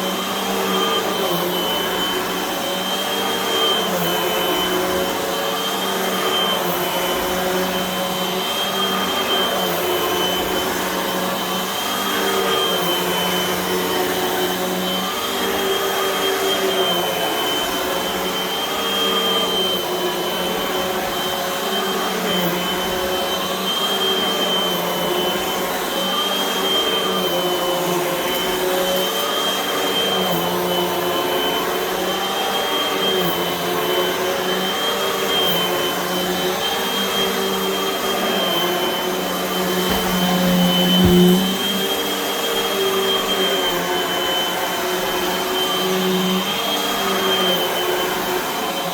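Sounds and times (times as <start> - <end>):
vacuum cleaner running on carpet: 0.0 - 48.9.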